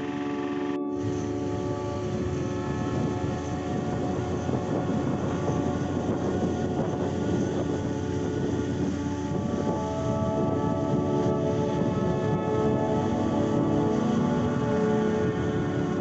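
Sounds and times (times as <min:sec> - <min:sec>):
steady mechanical drone: 0:00.0 - 0:16.0.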